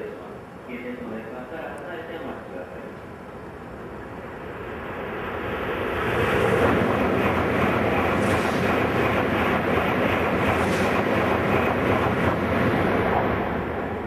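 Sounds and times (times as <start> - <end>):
high-speed train rushing past: 0.0 - 14.0.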